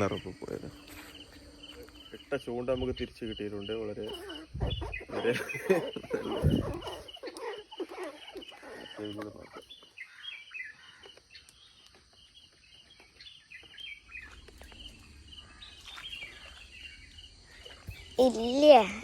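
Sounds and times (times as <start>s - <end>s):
birds singing: 0.0s - 19.0s.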